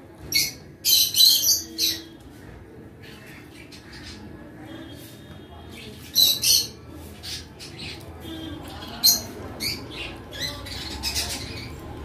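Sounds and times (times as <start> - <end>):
faint pet birds chirping: 0.2 - 12.0.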